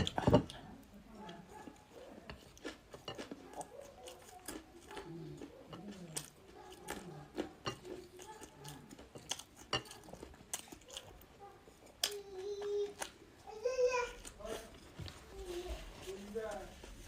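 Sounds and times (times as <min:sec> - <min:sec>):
chewing with crunches: 0:00.0 - 0:17.0.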